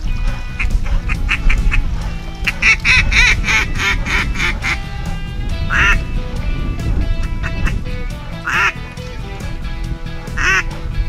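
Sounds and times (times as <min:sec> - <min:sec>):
duck quacking: 0:00.0 - 0:11.0
faint background music: 0:00.0 - 0:11.0.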